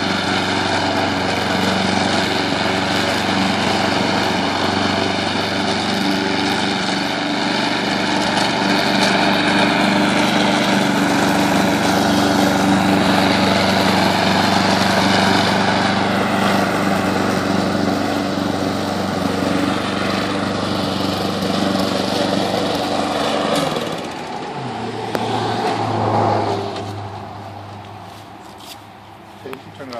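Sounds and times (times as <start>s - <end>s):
lawn mower engine running: 0.0s - 29.9s.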